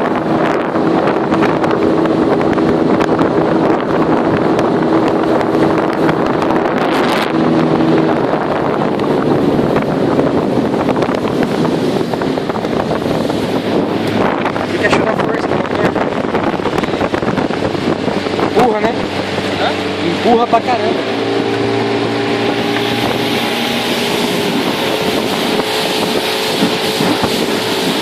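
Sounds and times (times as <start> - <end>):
hull cutting through water: 0.0 - 28.0
outboard motor running: 0.0 - 28.0
wind noise on microphone: 0.0 - 28.0.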